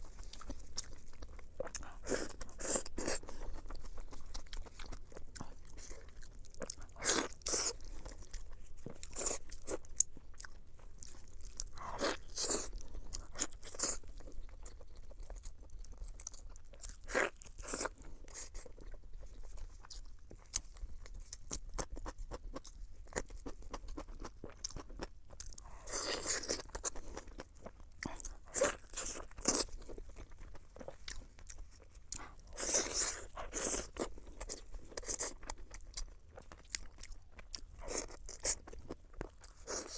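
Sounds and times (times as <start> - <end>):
chewing and crunchy bites: 0.0 - 39.9.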